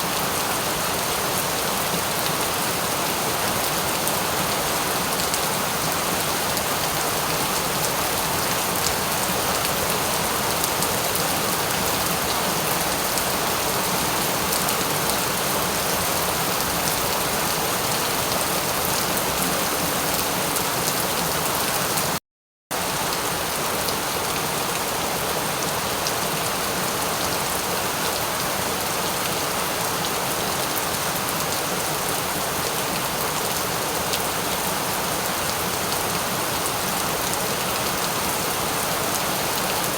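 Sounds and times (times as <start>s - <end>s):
steady rain: 0.0s - 22.2s, 22.8s - 39.9s.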